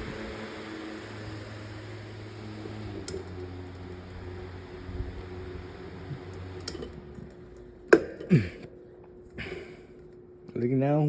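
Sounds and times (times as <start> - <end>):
electric fan running: 0.0 - 11.0.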